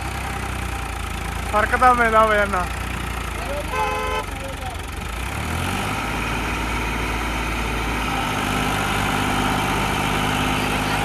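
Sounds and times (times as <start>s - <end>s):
tractor diesel engine straining: 0.0s - 11.0s.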